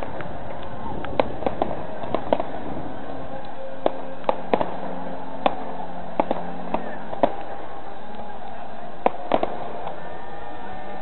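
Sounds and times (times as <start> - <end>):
fireworks popping and cracking: 0.0 - 8.3, 9.0 - 10.1
steady background din: 0.0 - 11.0.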